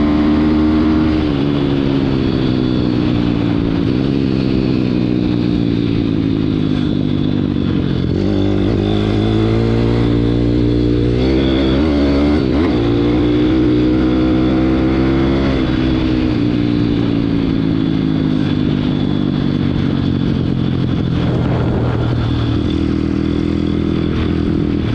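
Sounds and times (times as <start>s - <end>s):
motorbike engine revving: 0.0s - 24.9s.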